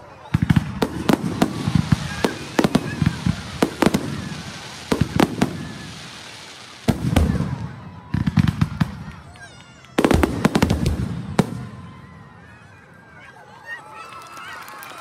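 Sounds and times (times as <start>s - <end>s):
fireworks bangs: 0.0s - 12.6s
fireworks crackling: 0.0s - 12.6s.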